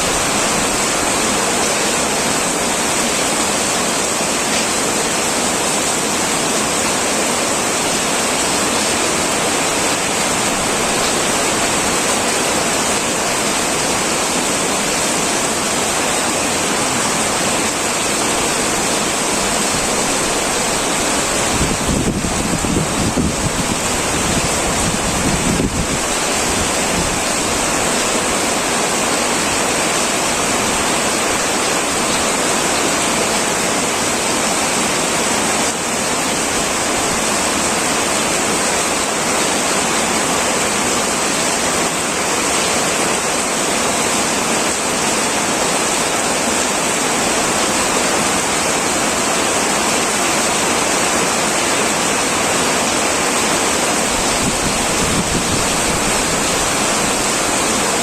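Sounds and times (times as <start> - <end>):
heavy rain on metal roof: 0.0 - 58.0.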